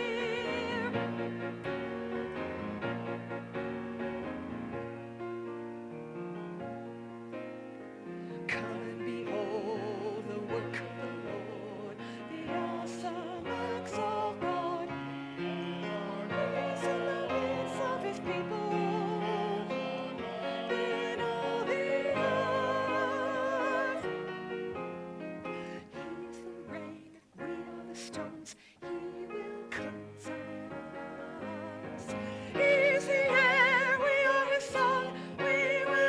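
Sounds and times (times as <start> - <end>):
church choir singing: 0.0 - 4.9, 8.0 - 36.0.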